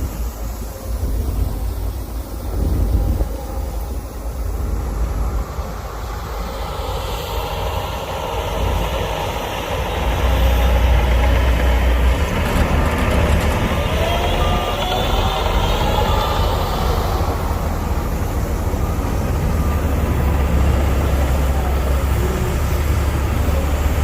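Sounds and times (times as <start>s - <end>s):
heavy diesel engine rumbling: 0.0s - 24.0s
rising whine: 0.0s - 24.0s.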